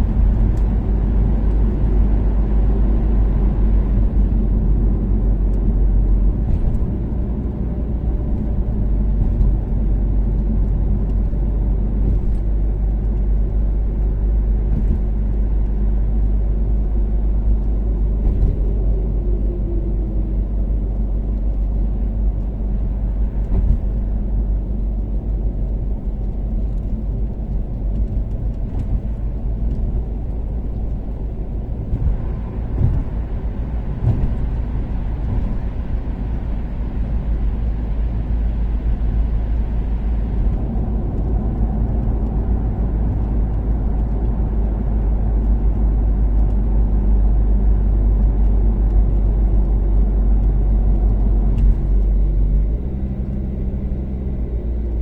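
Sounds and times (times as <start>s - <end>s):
car engine and tyres cruising: 0.0s - 55.0s.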